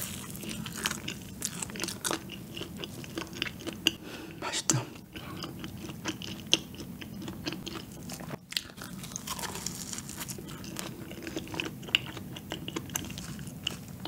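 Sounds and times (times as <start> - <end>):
chewing donut: 0.0 - 4.0, 5.0 - 14.0.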